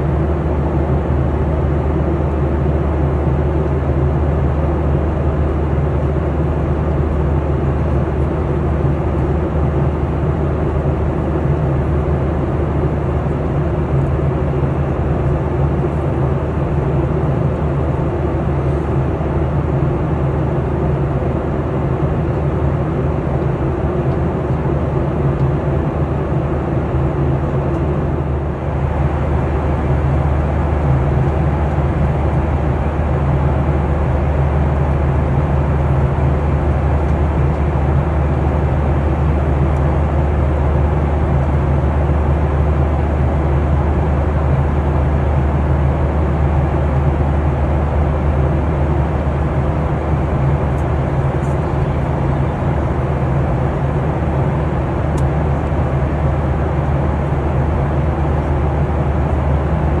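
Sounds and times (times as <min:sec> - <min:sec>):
airliner cabin drone: 0:00.0 - 1:00.0.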